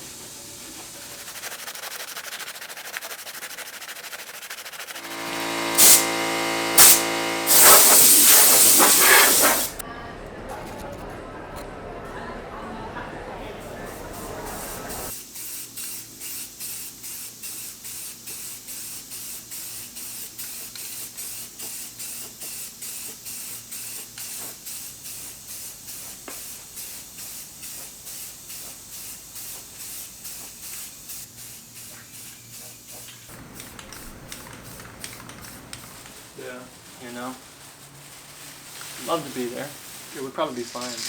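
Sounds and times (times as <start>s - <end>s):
primer spray hissing in bursts: 0.0s - 9.8s, 13.9s - 41.0s.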